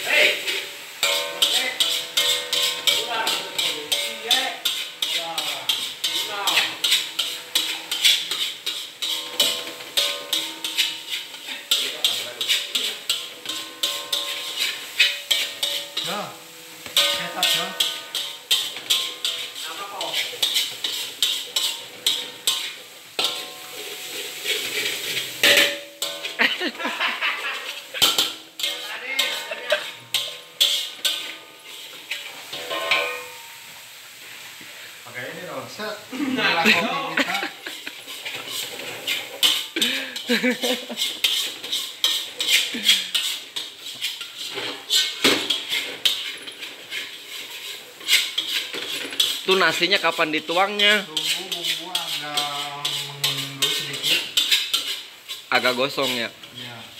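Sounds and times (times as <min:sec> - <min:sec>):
food frying sizzle: 0:00.0 - 0:56.9
metal spatula scraping wok: 0:00.0 - 0:56.9.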